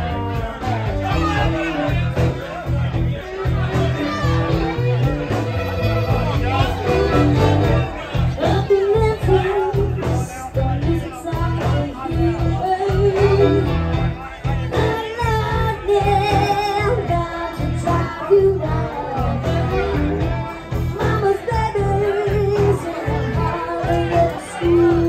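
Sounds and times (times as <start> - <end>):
country-rock band playing: 0.0 - 25.0.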